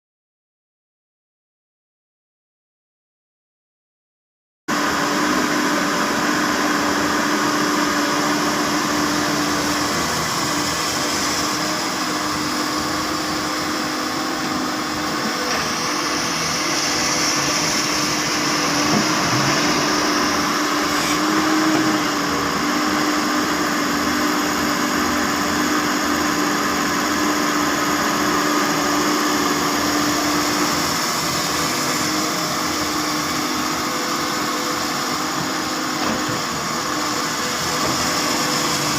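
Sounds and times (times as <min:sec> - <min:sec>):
excavator diesel engine running: 0:04.7 - 0:38.9.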